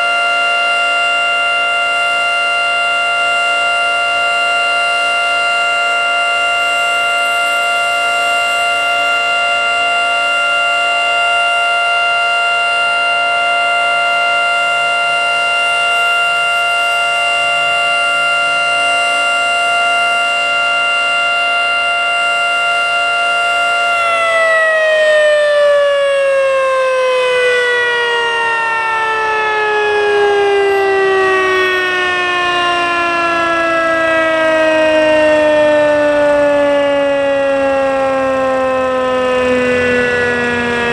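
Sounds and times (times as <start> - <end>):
warning siren: 0.0 - 40.9.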